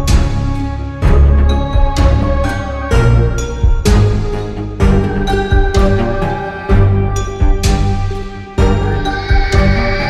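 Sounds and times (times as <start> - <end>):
background music with strong beats: 0.0 - 10.0.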